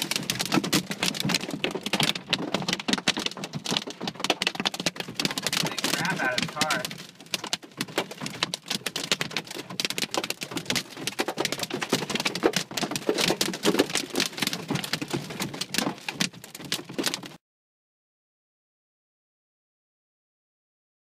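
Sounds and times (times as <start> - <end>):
rain and hail on car roof: 0.0 - 17.4.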